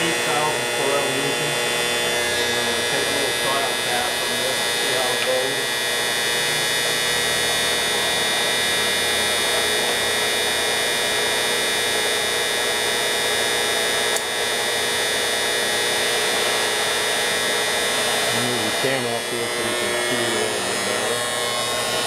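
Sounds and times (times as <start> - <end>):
boring mill motor humming: 0.0 - 22.0.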